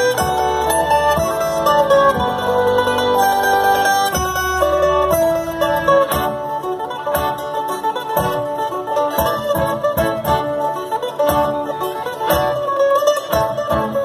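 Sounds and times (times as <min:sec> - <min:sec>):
guitars picking and strumming: 0:00.0 - 0:14.0
violin melody: 0:00.0 - 0:14.0.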